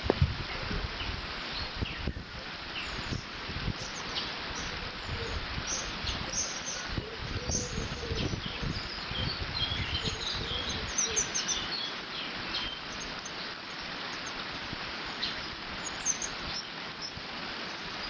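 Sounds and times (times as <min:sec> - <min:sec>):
wind rumbling on microphone: 0:00.0 - 0:18.0
small birds chirping: 0:01.0 - 0:18.0.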